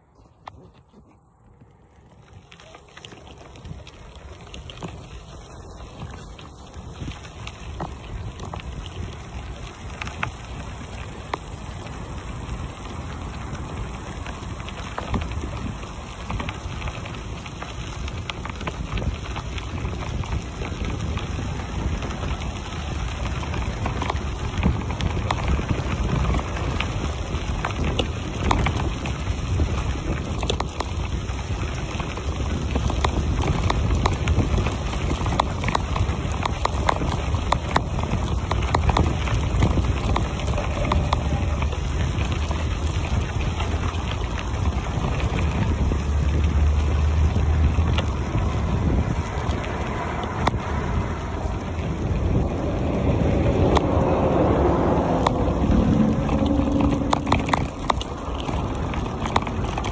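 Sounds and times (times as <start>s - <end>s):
bicycle tyres crunching on gravel: 0.0s - 59.9s
wind buffeting microphone: 0.0s - 59.9s.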